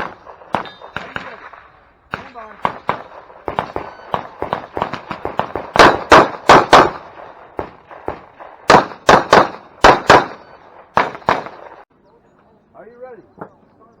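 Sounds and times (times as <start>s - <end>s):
pistol shots: 0.0s - 11.8s.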